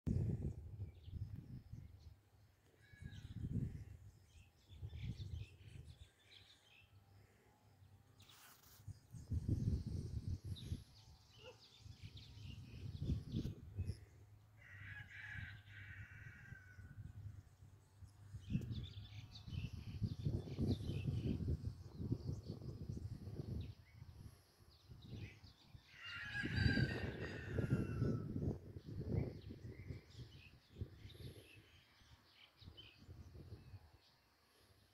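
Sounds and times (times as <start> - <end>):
wind buffeting microphone: 0.1 - 2.2, 2.9 - 6.2, 8.9 - 14.1, 15.3 - 34.0.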